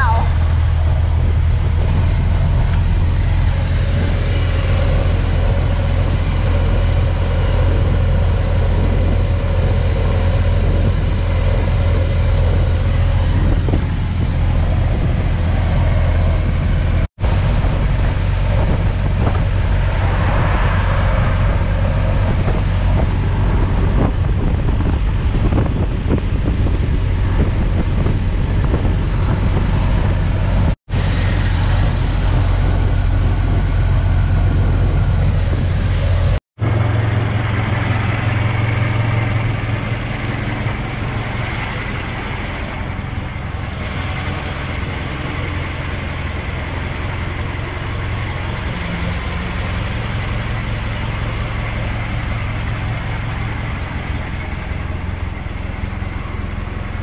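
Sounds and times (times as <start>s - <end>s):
car engine running: 0.0s - 57.0s
wind and road noise: 0.0s - 57.0s.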